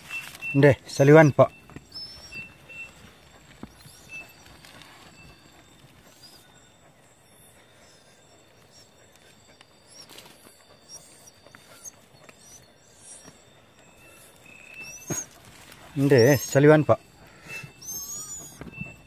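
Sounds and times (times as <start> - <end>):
faint high chirps: 0.0 - 19.0.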